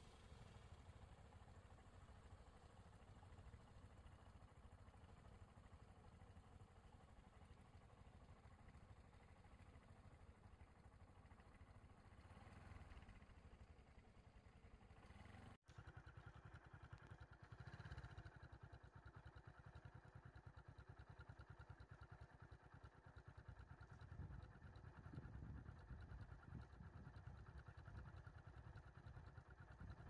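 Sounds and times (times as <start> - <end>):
faint vehicle engine idling: 0.0 - 30.0.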